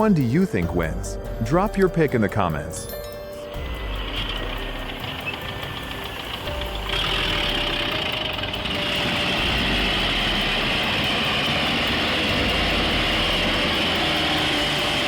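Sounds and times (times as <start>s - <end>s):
diesel tractor engines under load: 0.0s - 15.0s.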